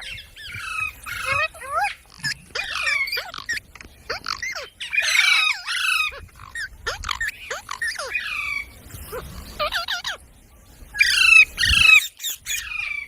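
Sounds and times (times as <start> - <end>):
parrot squawking and chattering: 0.0 - 10.2, 11.0 - 13.0.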